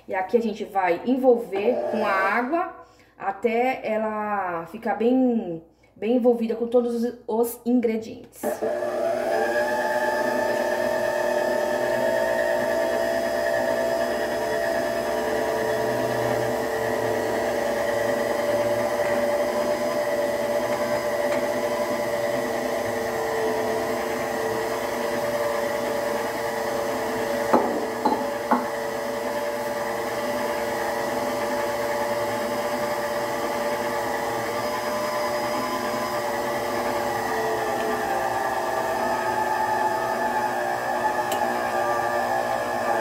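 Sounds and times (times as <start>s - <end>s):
stand mixer whining: 1.6s - 2.2s, 8.4s - 43.0s.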